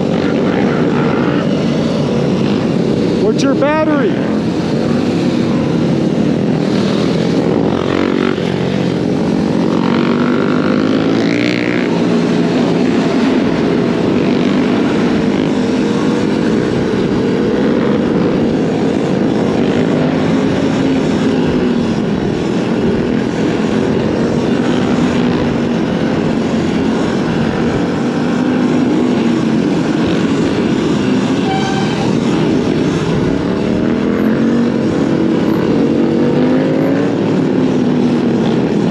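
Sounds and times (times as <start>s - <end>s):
motorbike engine drone: 0.0s - 38.9s.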